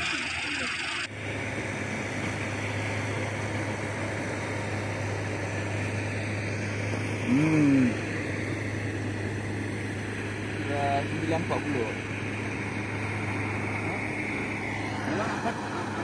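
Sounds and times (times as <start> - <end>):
heavy machinery engine humming: 0.0 - 16.0.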